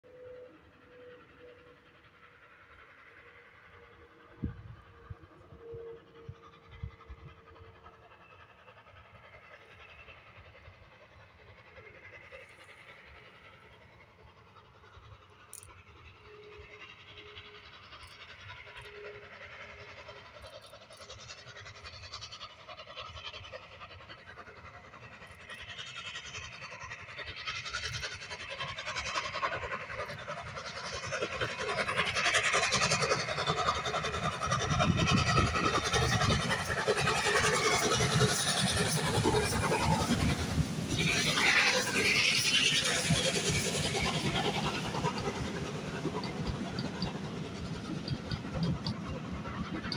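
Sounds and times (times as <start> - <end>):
steam locomotive exhaust chuffing: 0.0 - 49.9.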